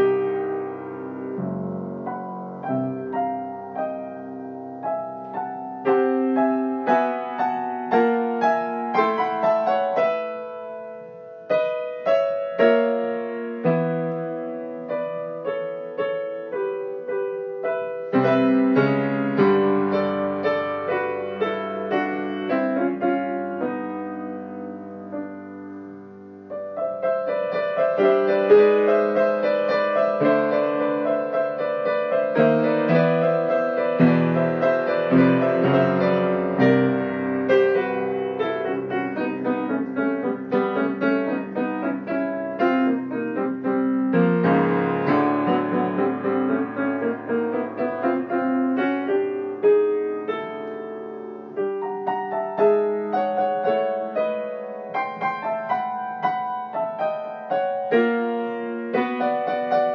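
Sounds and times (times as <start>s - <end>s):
solo piano chords: 0.0s - 59.9s.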